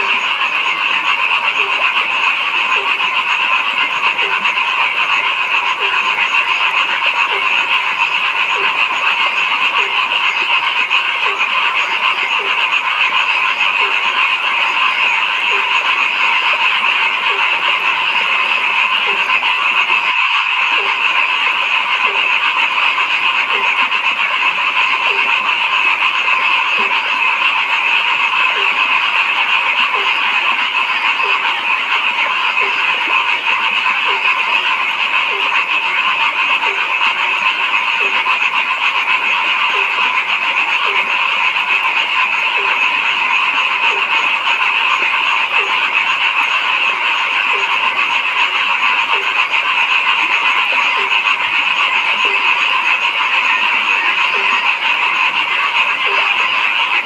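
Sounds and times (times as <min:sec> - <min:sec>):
frog chorus: 0:00.0 - 0:57.0
low frog croaking: 0:00.0 - 0:57.0.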